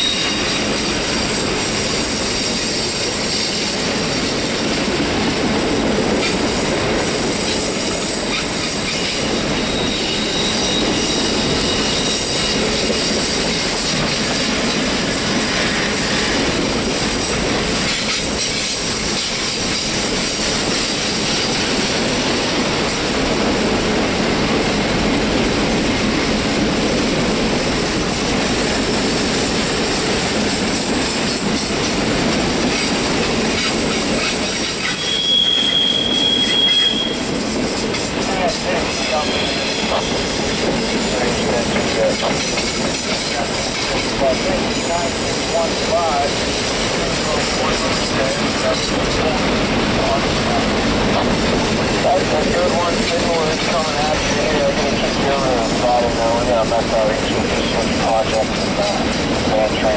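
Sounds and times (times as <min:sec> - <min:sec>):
wheels squealing against rails: 0:00.0 - 0:04.5, 0:06.2 - 0:22.6, 0:32.7 - 0:59.9
train rolling rumble: 0:00.0 - 0:59.9.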